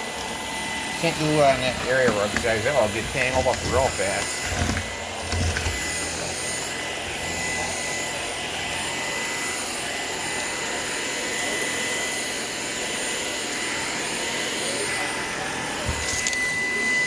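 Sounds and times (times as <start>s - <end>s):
stick vacuum running: 0.0s - 12.3s, 13.5s - 17.0s.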